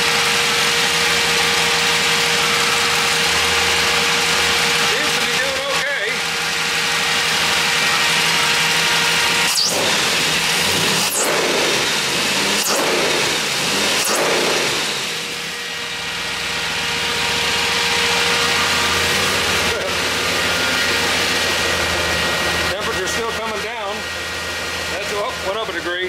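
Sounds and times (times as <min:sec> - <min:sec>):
car engine revving: 0:00.0 - 0:26.0
radiator fan rushing: 0:00.0 - 0:26.0.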